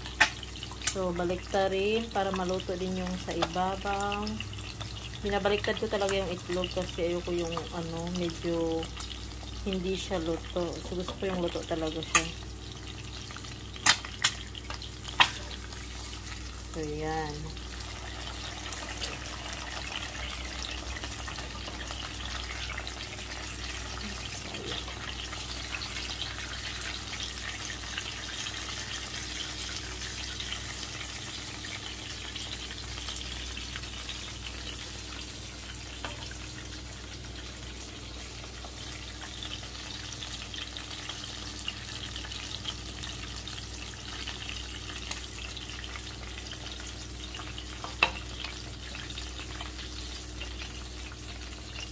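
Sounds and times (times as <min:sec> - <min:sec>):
eggs sizzling in frying pan: 0:00.0 - 0:51.9.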